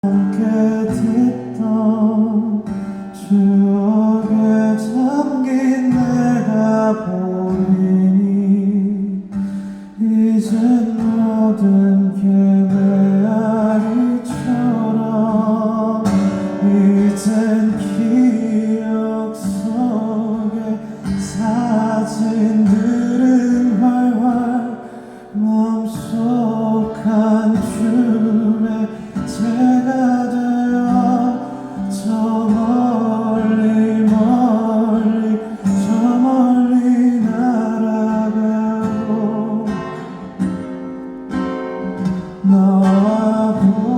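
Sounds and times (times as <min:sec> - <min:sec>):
man singing slow song: 0:00.0 - 0:40.7, 0:41.7 - 0:43.9
acoustic guitar: 0:00.0 - 0:43.9.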